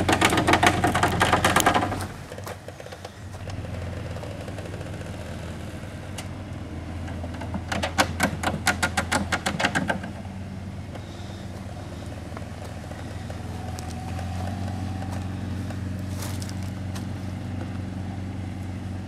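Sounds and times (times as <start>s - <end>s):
vehicle engine running at low revs: 0.0s - 19.0s.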